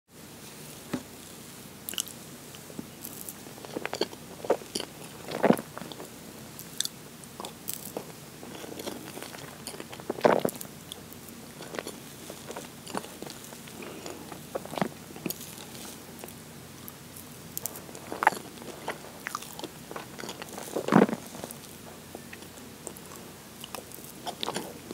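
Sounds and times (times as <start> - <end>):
wet chewing: 1.9 - 2.2, 3.0 - 24.9.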